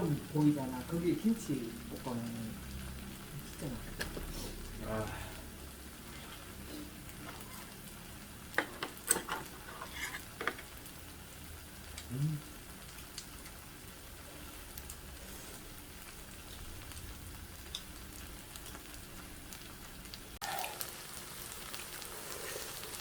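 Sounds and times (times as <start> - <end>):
food sizzling on griddle: 0.0 - 23.0.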